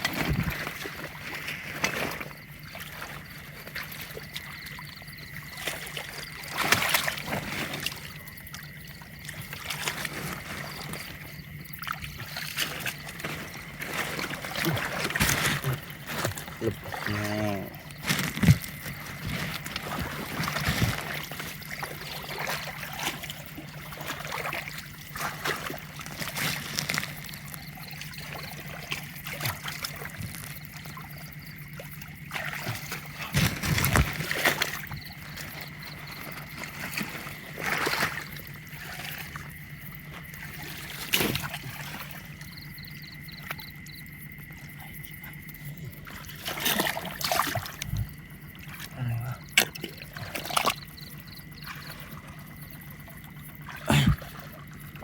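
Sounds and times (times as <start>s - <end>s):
steady low hum: 0.0s - 55.0s
water splashing and trickling: 0.0s - 55.0s.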